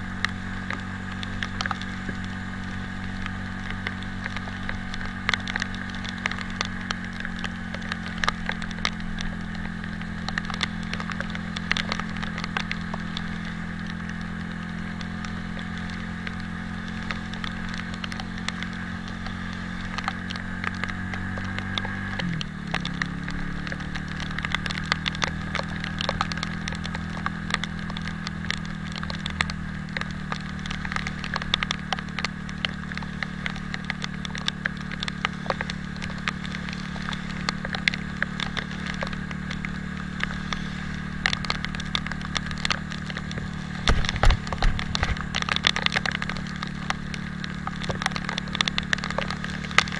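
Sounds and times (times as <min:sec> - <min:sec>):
motorcycle engine running: 0:00.0 - 0:49.9
raindrops hitting microphone: 0:00.0 - 0:49.9.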